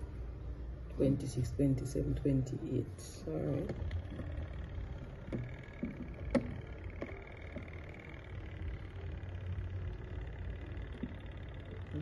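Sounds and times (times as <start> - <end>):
air fryer humming: 0.0 - 12.0
faint high whine: 0.0 - 12.0.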